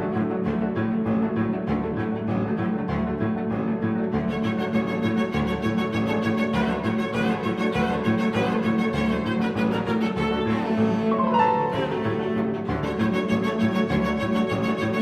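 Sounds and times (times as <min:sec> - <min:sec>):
bowed strings: 0:00.0 - 0:15.0
piano: 0:00.0 - 0:15.0.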